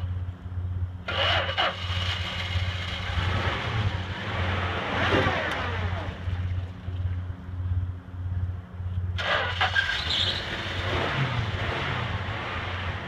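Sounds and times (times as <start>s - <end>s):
pickup engine running: 0.0s - 13.0s.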